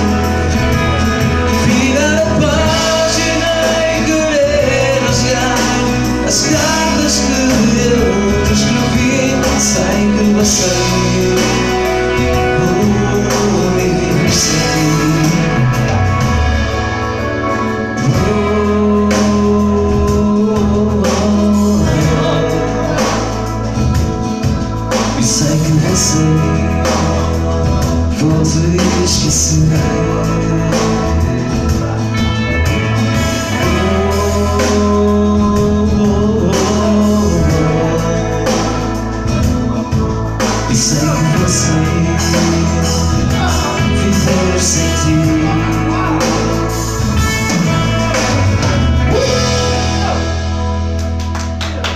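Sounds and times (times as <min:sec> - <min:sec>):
instrumental backing with bass: 0:00.0 - 0:51.9
man singing ballad: 0:00.0 - 0:51.9.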